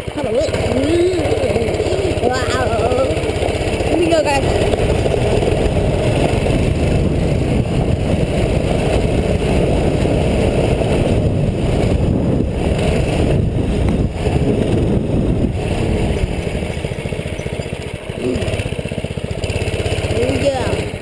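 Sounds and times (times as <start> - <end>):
mini bike engine running: 0.0 - 21.0.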